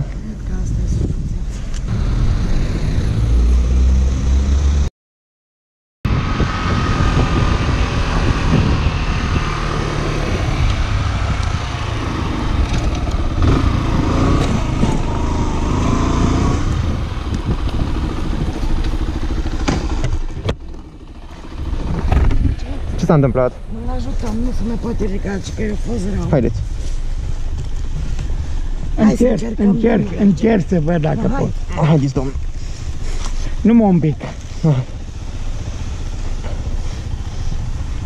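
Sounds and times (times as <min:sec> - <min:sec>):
motorcycle engine running: 0:06.1 - 0:38.0.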